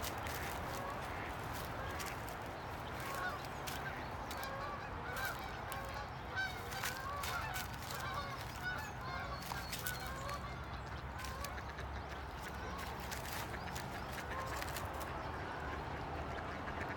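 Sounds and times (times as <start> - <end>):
waterfowl honking: 0.0 - 16.9.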